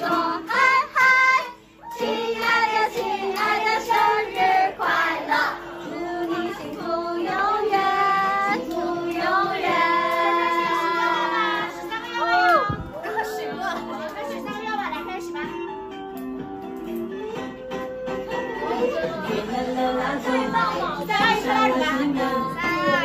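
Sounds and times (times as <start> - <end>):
women singing pop song: 0.0 - 14.1, 18.7 - 23.0
pop music: 2.0 - 15.5, 17.2 - 23.0.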